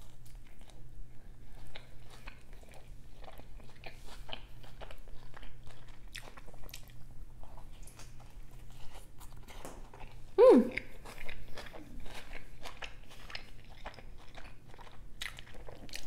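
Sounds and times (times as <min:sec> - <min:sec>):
person chewing crunchy pizza: 0:00.0 - 0:16.0.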